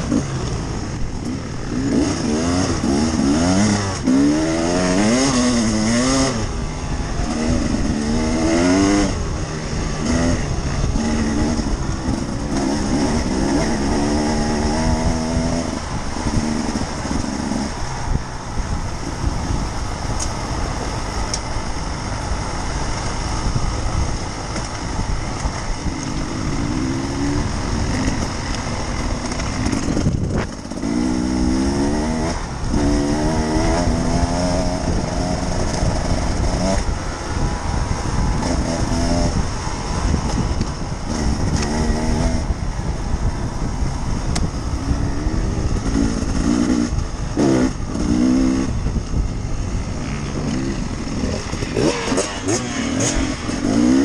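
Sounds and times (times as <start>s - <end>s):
motorcycle engine revving: 0.0s - 54.0s
steady rushing noise: 0.0s - 54.0s.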